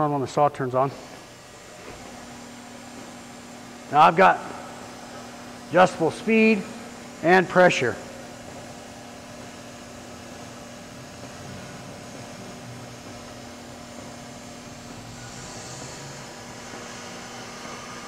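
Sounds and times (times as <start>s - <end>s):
bandsaw machine hum: 1.0s - 18.0s.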